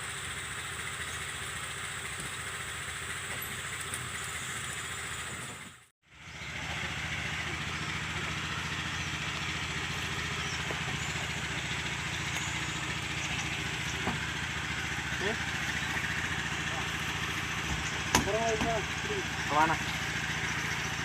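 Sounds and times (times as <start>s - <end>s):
small engine idling: 0.0s - 21.0s.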